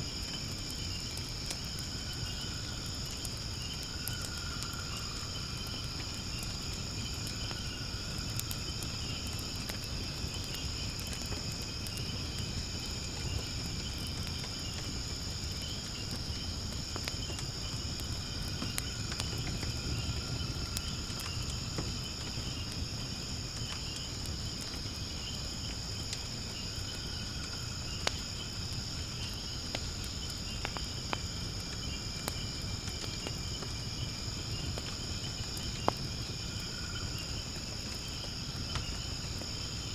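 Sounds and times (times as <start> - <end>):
crickets chirping: 0.0 - 39.9
firewood crackling and popping: 0.0 - 39.9
low steady rumble of fire: 0.0 - 39.9.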